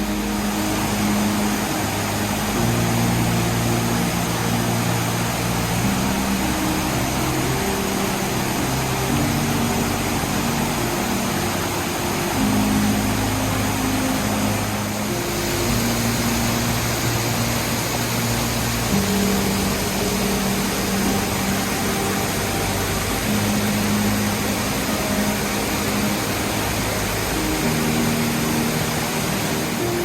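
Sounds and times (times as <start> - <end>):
soft background music: 0.0 - 30.0
waterfall rushing: 0.0 - 30.0.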